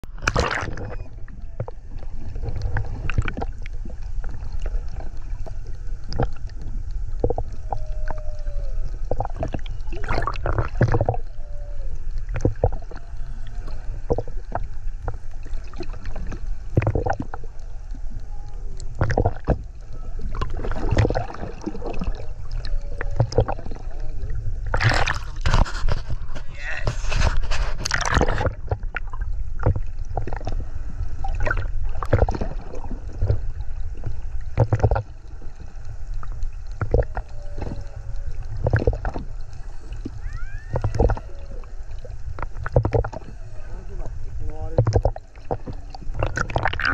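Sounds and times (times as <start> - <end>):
crackles and bubbly splashes: 0.0 - 46.9
underwater rumble: 0.0 - 46.9
whale song moans: 0.6 - 3.5, 4.6 - 25.2, 30.2 - 46.9.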